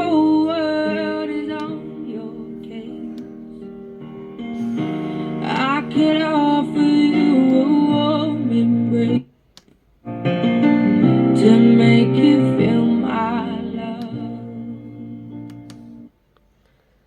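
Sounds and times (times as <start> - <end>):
music with singing: 0.0 - 9.4, 10.4 - 16.1
guitar: 0.0 - 16.1
keyboard: 0.0 - 16.2.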